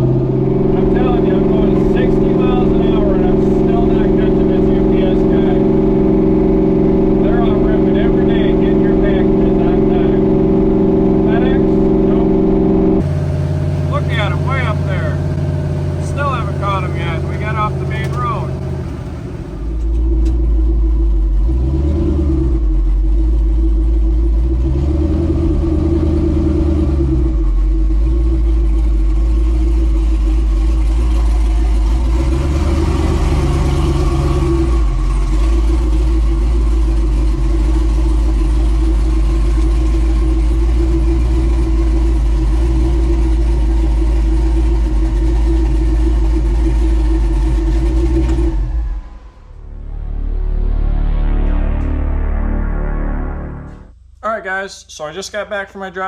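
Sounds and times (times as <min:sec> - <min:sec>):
pickup truck engine droning: 0:00.0 - 0:54.2.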